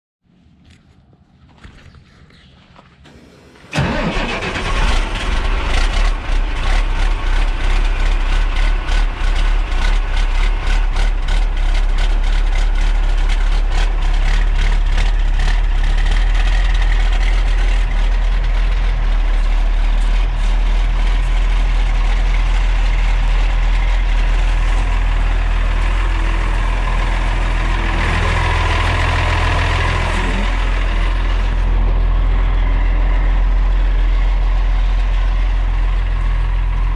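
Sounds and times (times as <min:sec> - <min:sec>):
diesel truck engine starting and idling: 0:03.0 - 0:36.9.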